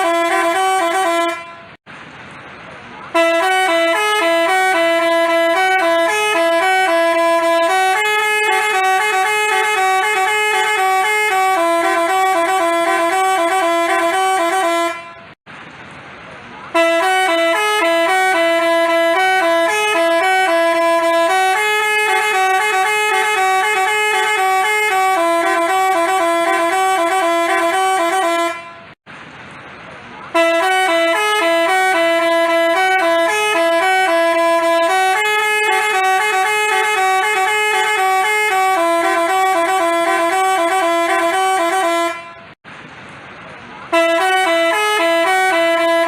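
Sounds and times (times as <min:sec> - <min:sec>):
musical vehicle horn melody: 0:00.0 - 0:01.8, 0:03.1 - 0:15.4, 0:16.7 - 0:29.0, 0:30.3 - 0:42.6, 0:43.9 - 0:46.0.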